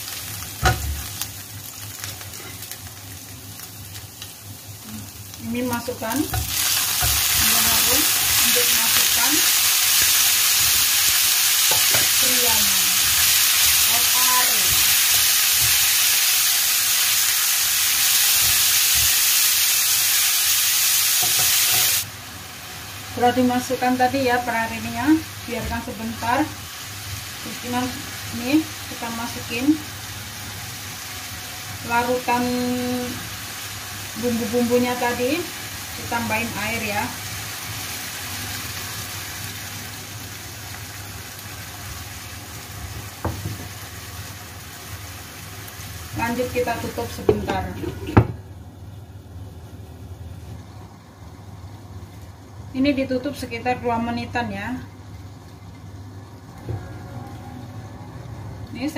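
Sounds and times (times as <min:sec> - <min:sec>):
vegetables frying in hot oil: 0:00.0 - 0:58.9.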